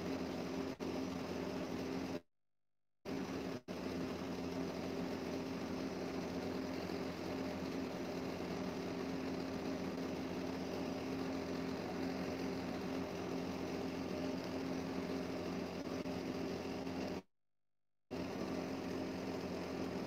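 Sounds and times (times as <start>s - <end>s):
steady hum: 0.0s - 2.2s, 3.1s - 17.2s, 18.1s - 20.0s.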